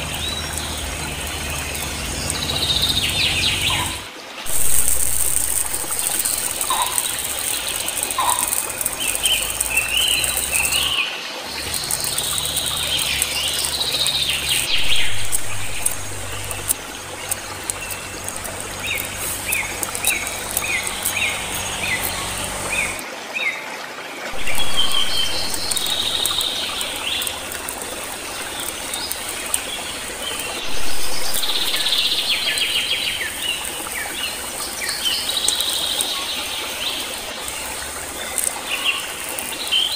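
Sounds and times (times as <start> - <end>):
small birds chirping: 0.0 - 23.0, 24.3 - 39.9.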